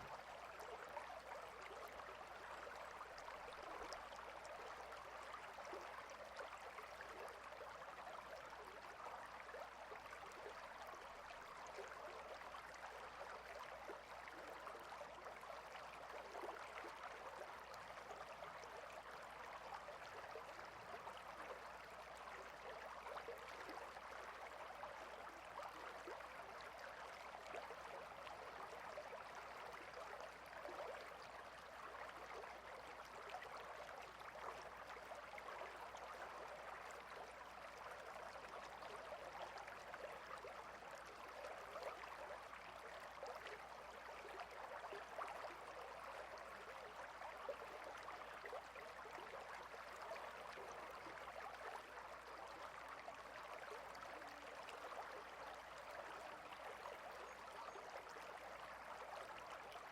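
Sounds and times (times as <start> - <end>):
small stream flowing: 0.0 - 59.9.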